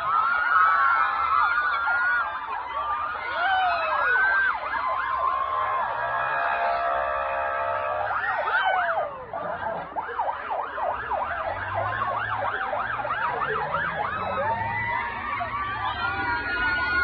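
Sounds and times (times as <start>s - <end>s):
vehicle sirens sweeping: 0.0s - 17.0s.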